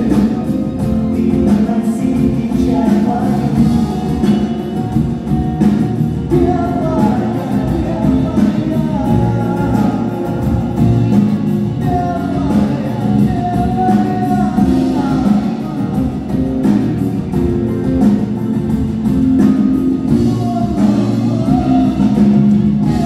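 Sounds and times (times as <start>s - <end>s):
person singing: 0.0s - 5.3s, 6.2s - 17.0s, 19.9s - 23.0s
drums: 0.0s - 23.0s
electric guitars: 0.0s - 23.0s.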